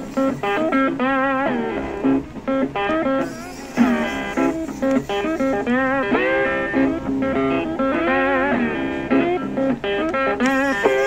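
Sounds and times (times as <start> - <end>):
plucked guitar instrumental: 0.0 - 11.0.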